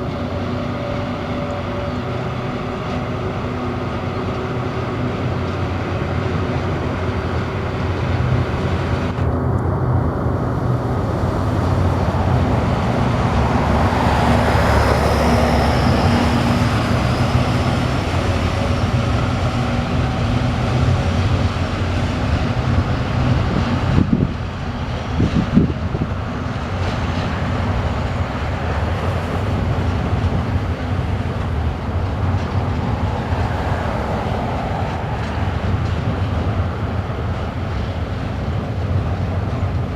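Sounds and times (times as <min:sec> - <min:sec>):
diesel engine hum: 0:00.0 - 0:39.9
train wheel and rail noise: 0:00.0 - 0:39.9.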